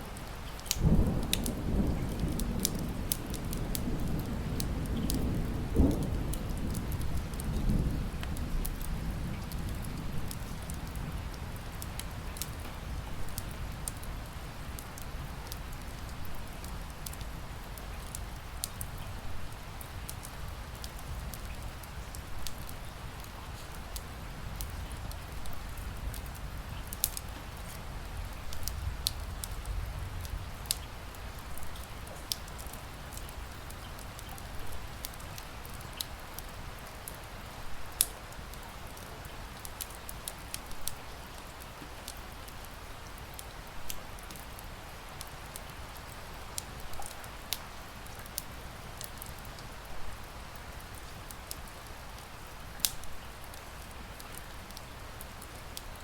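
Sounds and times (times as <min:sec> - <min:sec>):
rain hissing: 0:00.0 - 0:56.0
wood fire crackling and popping: 0:00.1 - 0:56.0.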